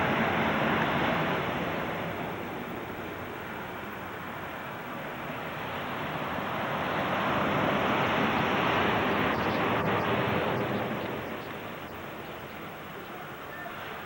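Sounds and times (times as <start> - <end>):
ocean surf rushing: 0.0 - 14.0.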